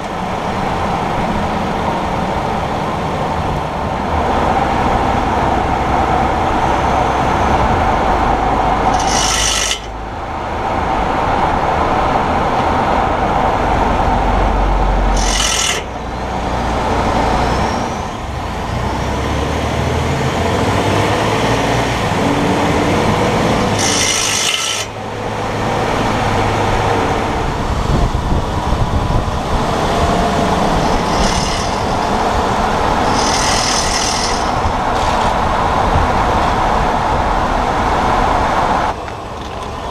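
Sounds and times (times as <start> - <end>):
road noise: 0.0 - 39.9
wheel grinding and rubbing: 4.2 - 39.9.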